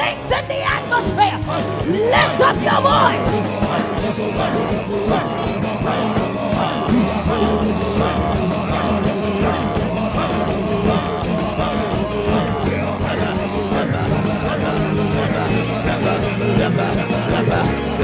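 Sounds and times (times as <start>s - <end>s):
worship music with keyboard chords: 0.0s - 18.0s
many voices praying aloud: 0.8s - 18.0s.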